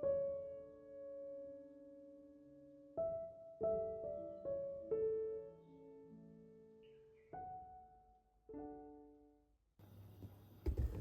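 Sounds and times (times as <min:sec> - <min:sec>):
soft piano music: 0:00.0 - 0:10.1
faint room sound: 0:00.0 - 0:11.0.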